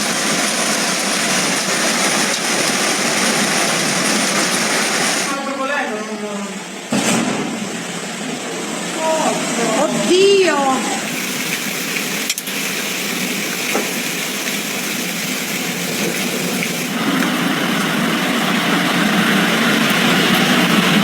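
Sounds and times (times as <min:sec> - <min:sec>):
rushing storm water: 0:00.0 - 0:21.0.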